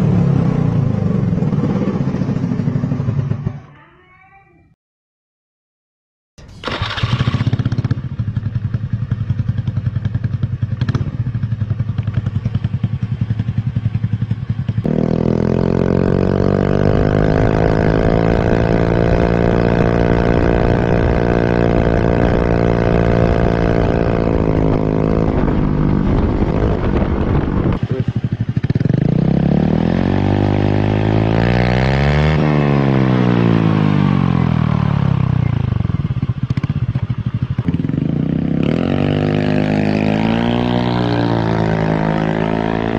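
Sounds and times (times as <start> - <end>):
scooter engine idling and revving: 0.0 - 3.8, 6.4 - 42.9.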